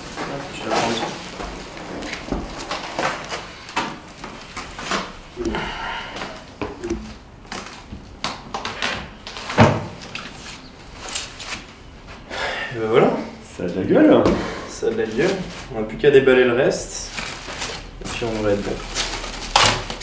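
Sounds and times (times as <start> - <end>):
cardboard and plastic wrap rustling: 0.0 - 12.2, 14.9 - 16.0, 16.8 - 20.0.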